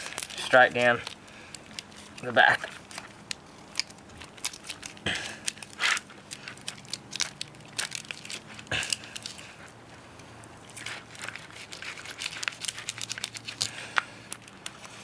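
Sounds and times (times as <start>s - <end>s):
shell cracking and crunching: 0.0s - 15.0s.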